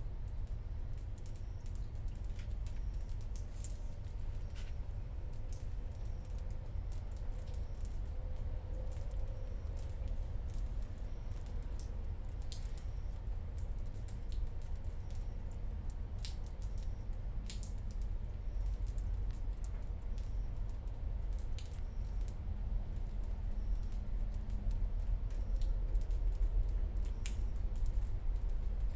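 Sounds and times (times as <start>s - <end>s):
steady low rain rumble: 0.0s - 28.9s
raindrops tapping: 0.3s - 28.9s.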